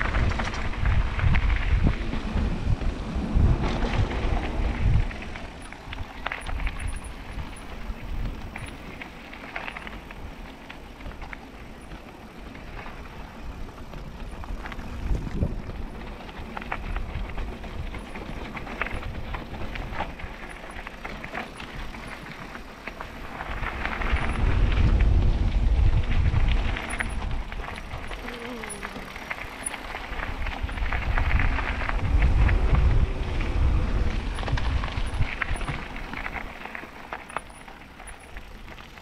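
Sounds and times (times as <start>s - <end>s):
bike frame rattling and clicking: 0.0s - 3.0s, 3.6s - 39.0s
bike tyres on gravel: 0.0s - 39.0s.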